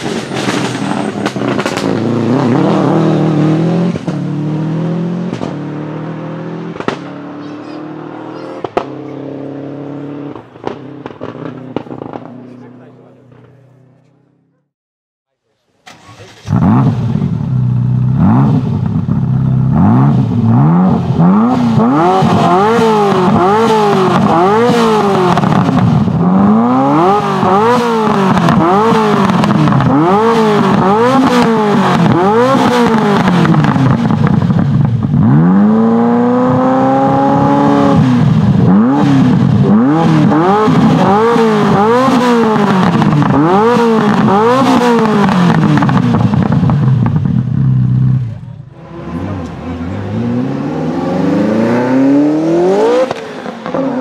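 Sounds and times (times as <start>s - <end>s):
car engine revving: 0.0s - 14.7s, 15.8s - 54.0s.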